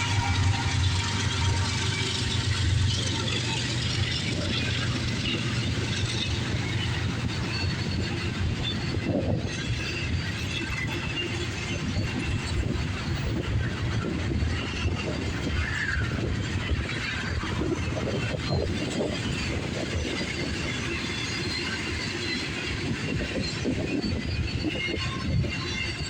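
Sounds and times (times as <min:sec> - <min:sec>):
rapid clicking of wheels: 0:00.0 - 0:26.0
train wheels rumbling on track: 0:00.0 - 0:26.0.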